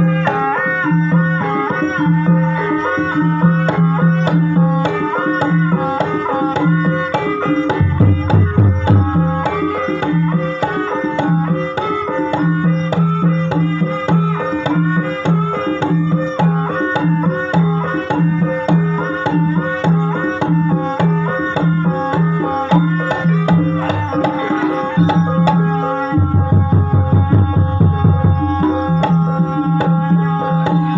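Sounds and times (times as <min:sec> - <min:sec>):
melody of pitched struck notes: 0:01.1 - 0:30.2
hand drums steady rhythm: 0:03.2 - 0:30.9.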